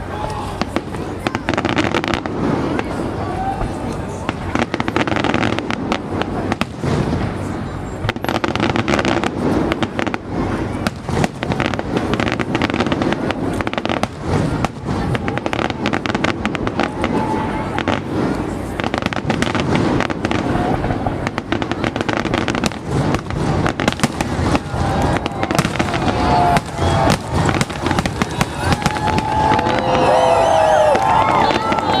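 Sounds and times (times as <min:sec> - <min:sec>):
fireworks crackling and banging: 0:00.0 - 0:32.0.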